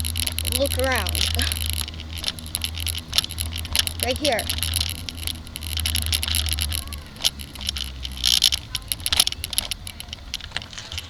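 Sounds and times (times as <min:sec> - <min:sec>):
bicycle rattling and clicking: 0:00.0 - 0:11.0.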